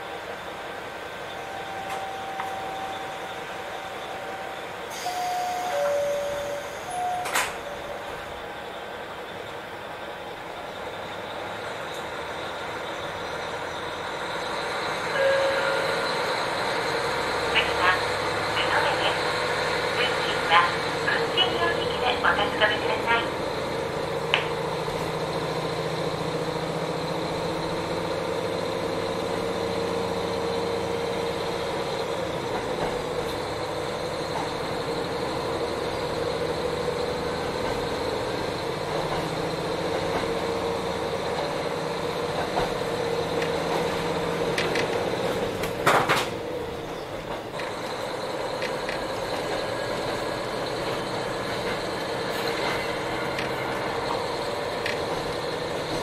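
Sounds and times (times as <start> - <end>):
diesel engine drone: 0.0 - 56.0
train wheel and rail noise: 0.0 - 56.0.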